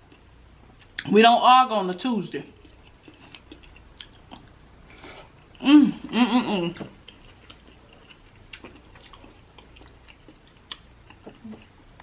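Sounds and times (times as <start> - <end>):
person chewing food: 0.0 - 1.1, 2.6 - 12.0.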